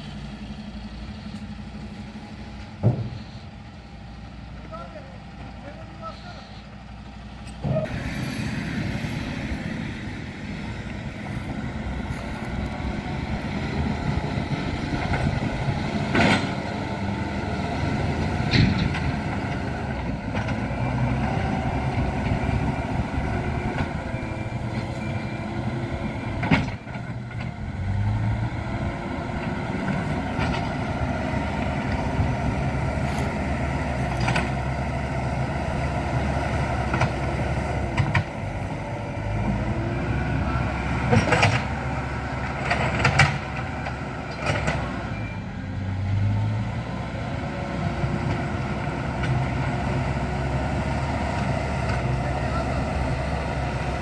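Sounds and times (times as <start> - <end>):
heavy diesel machinery engine: 0.0 - 54.0.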